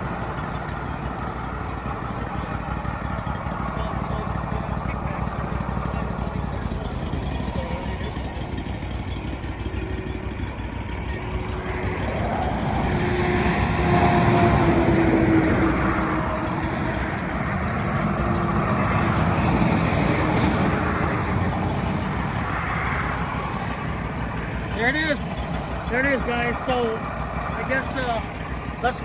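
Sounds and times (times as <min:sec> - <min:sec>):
sawmill engine running: 0:00.0 - 0:29.0.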